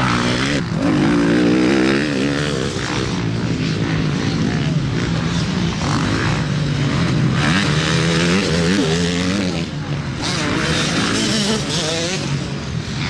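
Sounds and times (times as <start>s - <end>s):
motocross engines revving: 0.0s - 13.0s.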